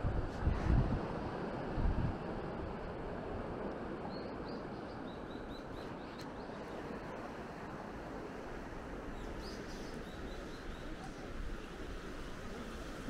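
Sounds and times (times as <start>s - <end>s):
wind and sea rushing: 0.0s - 13.0s.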